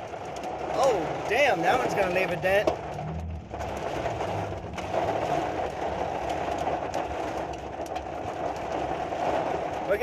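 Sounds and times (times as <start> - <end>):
rain and hail drumming on truck roof: 0.0 - 10.0.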